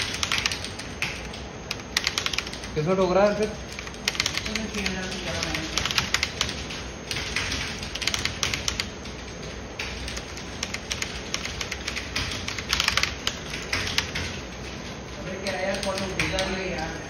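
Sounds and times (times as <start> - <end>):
keyboard typing: 0.0 - 17.0
low room hum: 0.0 - 17.0.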